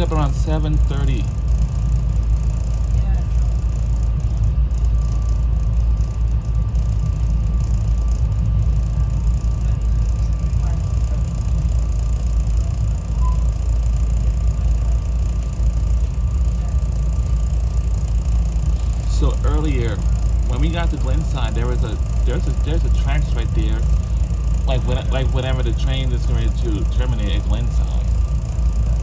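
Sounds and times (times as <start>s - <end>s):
electric train rumble: 0.0s - 29.0s
faint steady whine: 0.0s - 29.0s.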